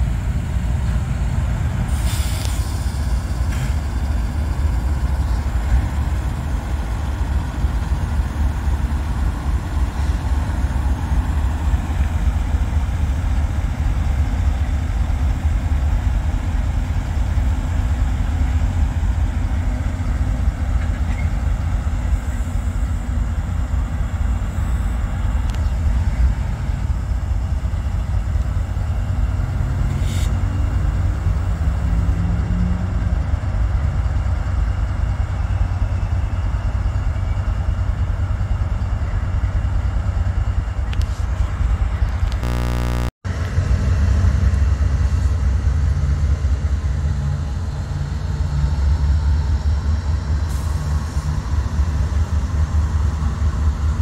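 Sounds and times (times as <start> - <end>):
freight train rumbling past: 0.0 - 42.6, 43.3 - 54.0.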